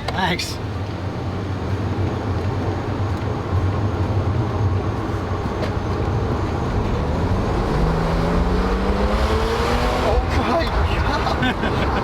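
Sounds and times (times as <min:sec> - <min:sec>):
road noise: 0:00.0 - 0:12.0
car engine droning at cruise: 0:00.8 - 0:12.0.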